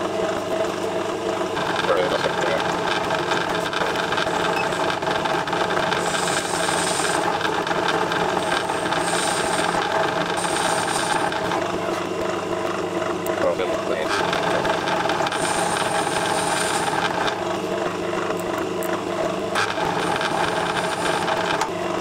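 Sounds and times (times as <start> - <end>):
metal lathe running: 0.0 - 22.0.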